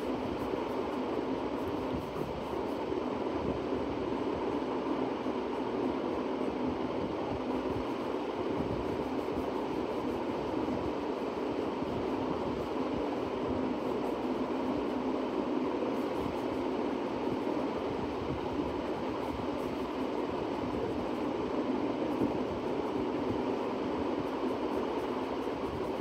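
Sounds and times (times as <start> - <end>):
steady rumbling background noise: 0.0 - 26.0.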